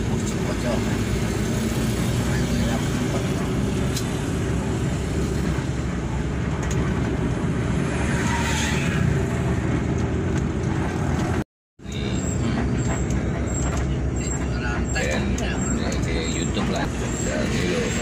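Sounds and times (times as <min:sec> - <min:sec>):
diesel engine drone: 0:00.0 - 0:18.0
road rumble: 0:00.0 - 0:18.0.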